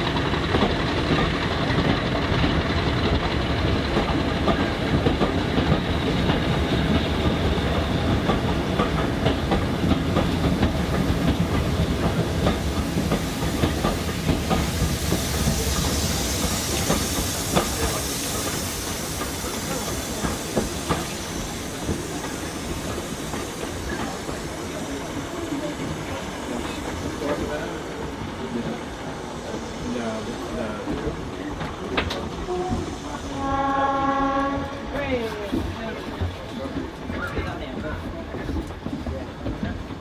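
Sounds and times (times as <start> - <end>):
train wheel clicks and knocks: 0.0 - 27.6, 30.8 - 33.0, 35.4 - 40.0
hiss: 0.0 - 36.1
train low rumble: 0.0 - 40.0.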